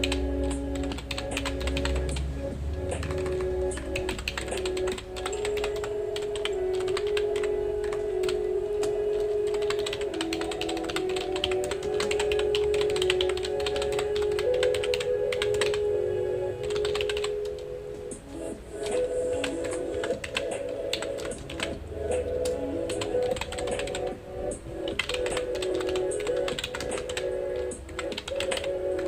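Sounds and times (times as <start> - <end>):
fast typing on keyboard: 0.0 - 15.9, 16.6 - 17.6, 18.8 - 24.2, 24.8 - 29.0
soft background music: 0.0 - 29.0.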